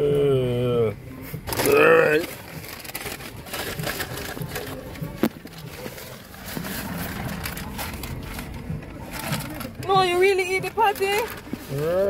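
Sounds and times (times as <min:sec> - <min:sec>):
paper bag crinkling: 0:01.5 - 0:12.0.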